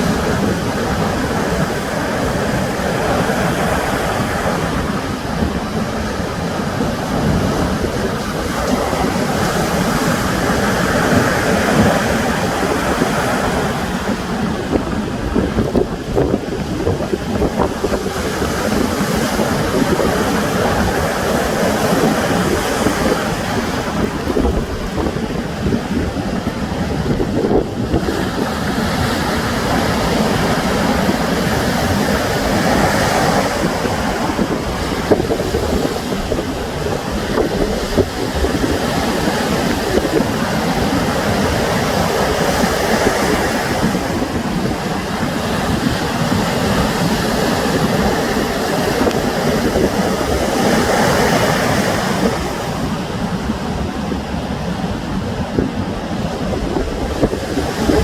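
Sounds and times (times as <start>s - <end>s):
sea waves breaking on shore: 0.0s - 58.0s
wind rumbling on microphone: 0.0s - 58.0s.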